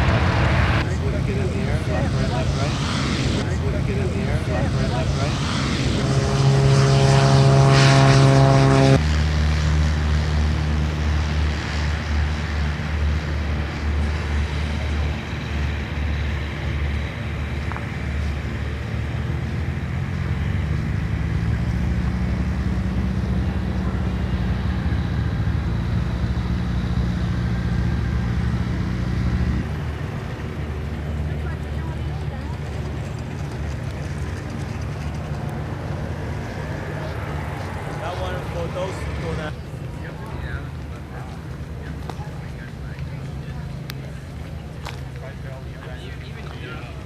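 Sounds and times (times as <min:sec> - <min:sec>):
low engine drone: 0:00.0 - 0:47.0
propeller aircraft engine: 0:00.0 - 0:47.0.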